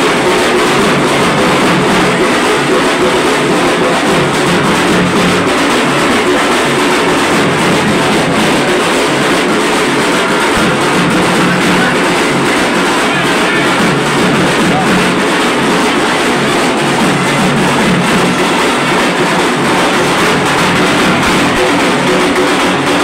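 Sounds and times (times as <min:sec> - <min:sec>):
drums beaten fast: 0:00.0 - 0:23.0.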